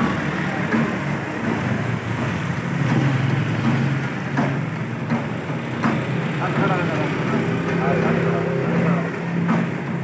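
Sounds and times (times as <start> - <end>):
street traffic engine hum: 0.0 - 10.0.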